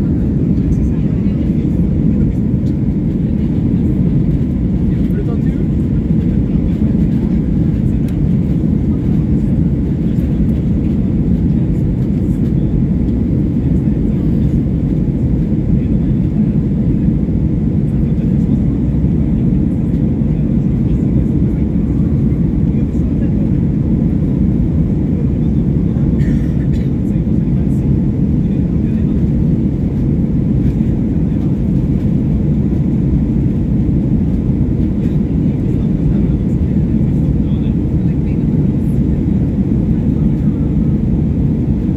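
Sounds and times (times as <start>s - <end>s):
jet engines low rumble: 0.0s - 41.9s.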